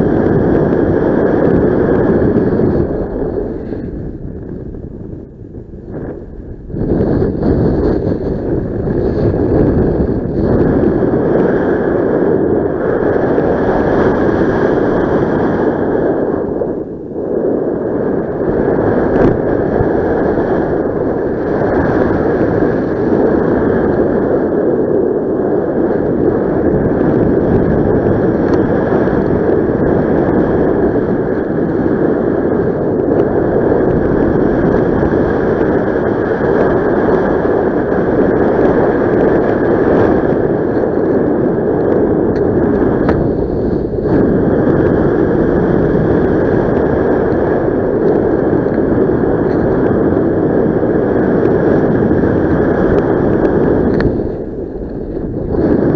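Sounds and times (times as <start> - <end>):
wind rushing on microphone: 0.0 - 55.9.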